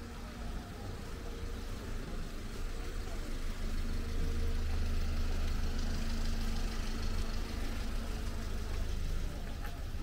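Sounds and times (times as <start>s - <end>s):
engine idling: 0.0s - 10.0s
faint steady tone: 0.0s - 10.0s.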